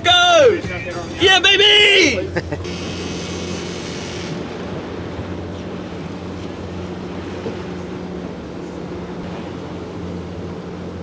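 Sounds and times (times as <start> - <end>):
boat engine droning: 0.0 - 11.0
water noise: 0.0 - 11.0
wind: 0.0 - 11.0.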